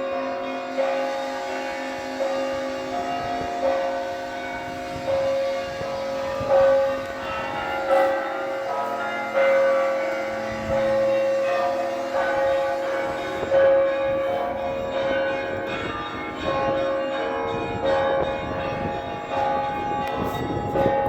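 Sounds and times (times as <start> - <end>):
church bells ringing: 0.0 - 21.0.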